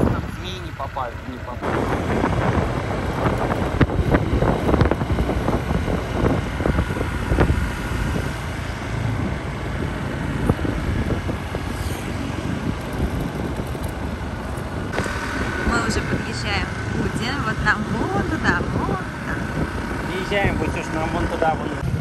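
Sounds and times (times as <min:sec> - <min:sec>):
motorbike engine rumble: 0:00.0 - 0:22.0
wind buffeting microphone: 0:00.0 - 0:22.0.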